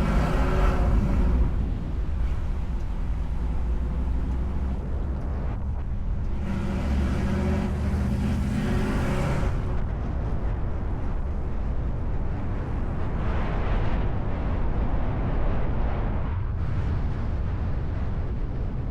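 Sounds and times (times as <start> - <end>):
steady engine tone: 0.0 - 18.4
vehicle engine rumbling: 0.0 - 18.9.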